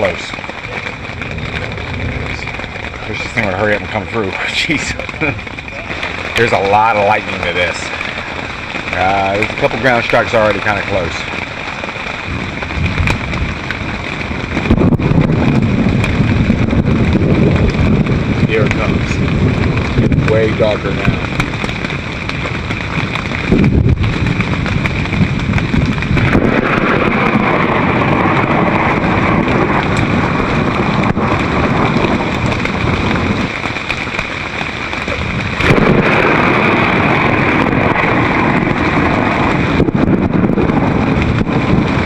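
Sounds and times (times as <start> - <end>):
heavy rain on tent fabric: 0.0 - 42.0
wind: 0.0 - 42.0.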